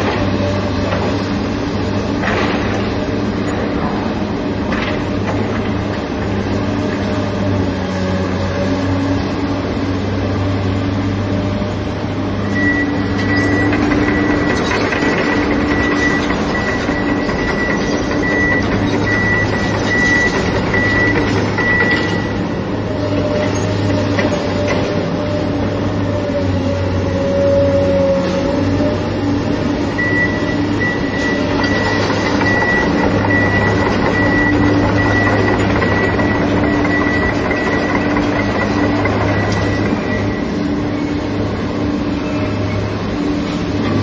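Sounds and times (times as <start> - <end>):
excavator diesel engine: 0.0 - 44.0.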